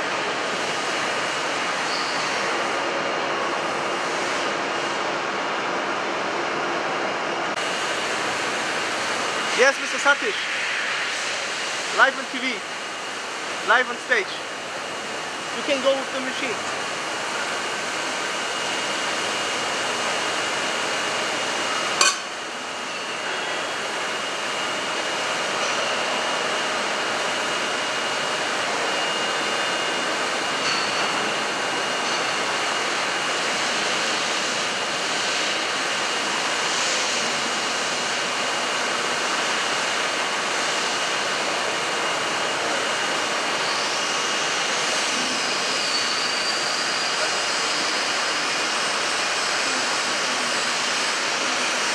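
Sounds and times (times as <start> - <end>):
milling machine hissing: 7.6 - 51.9.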